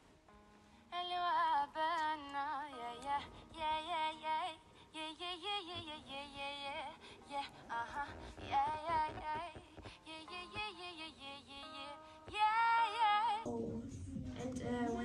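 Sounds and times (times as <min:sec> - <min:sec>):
woman singing: 0:00.9 - 0:15.0.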